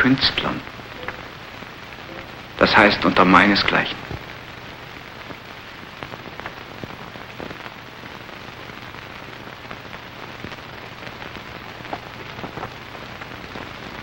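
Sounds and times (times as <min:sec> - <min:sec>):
crackles and clicks: 0:00.0 - 0:14.0
film soundtrack hiss: 0:00.0 - 0:14.0.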